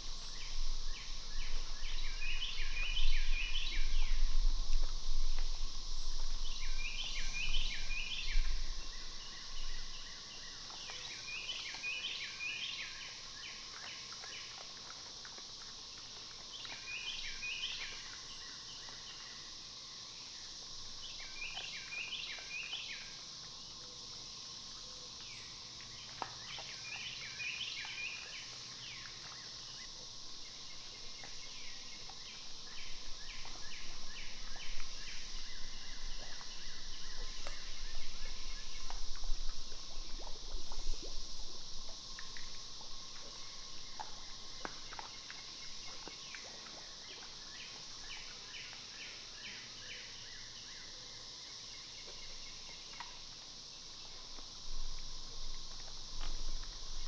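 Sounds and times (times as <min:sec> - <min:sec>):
insects hissing: 0:00.0 - 0:57.0
songbird singing: 0:00.0 - 0:57.0.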